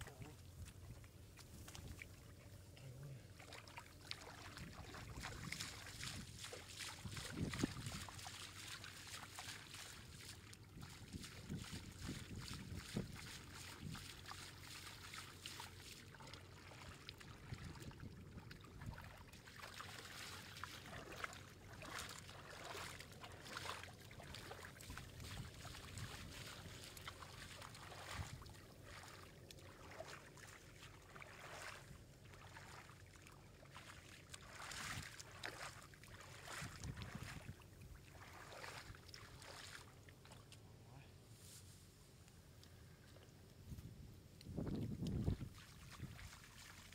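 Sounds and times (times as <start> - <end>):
wet mud squelching: 0.0 - 40.7, 44.4 - 46.9
splashing in muddy water: 0.0 - 40.8, 42.8 - 46.9.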